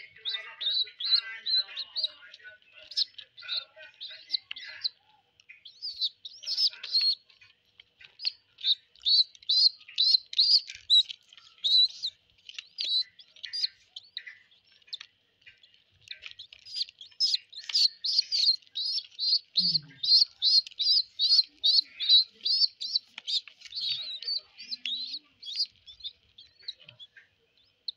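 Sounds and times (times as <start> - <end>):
baby pigeons peeping: 0.0 - 27.9.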